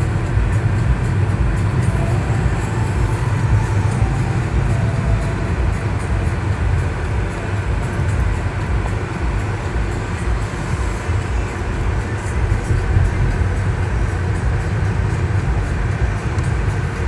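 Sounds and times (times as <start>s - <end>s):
car road noise from inside: 0.0s - 17.0s.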